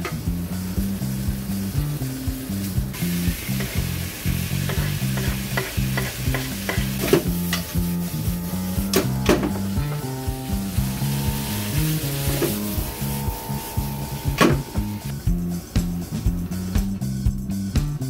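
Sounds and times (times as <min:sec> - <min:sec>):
bacon sizzling in a pan: 0:00.1 - 0:14.9.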